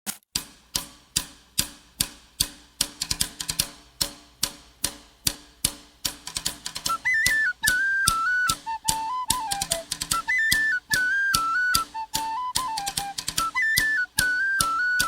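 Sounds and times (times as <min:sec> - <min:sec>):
clicking percussion beat: 0:00.1 - 0:15.0.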